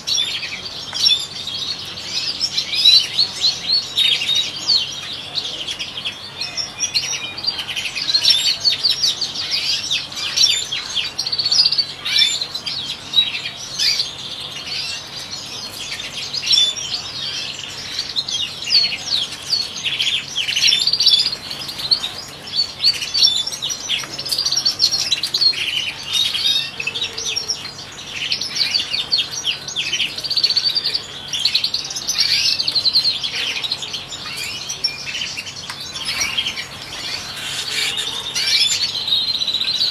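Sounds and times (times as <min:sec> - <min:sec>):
finch twittering song: 0:00.0 - 0:39.9.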